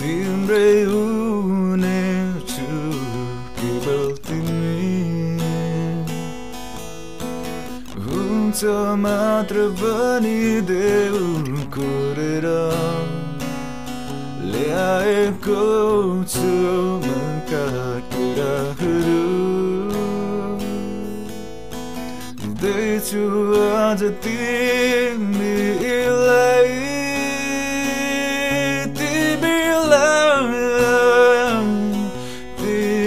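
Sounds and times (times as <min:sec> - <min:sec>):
strummed acoustic guitar: 0:00.0 - 0:33.0.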